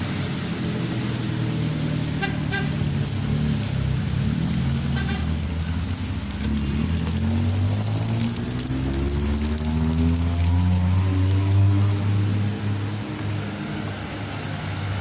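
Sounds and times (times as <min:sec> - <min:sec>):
vehicle engines running: 0:00.0 - 0:15.0.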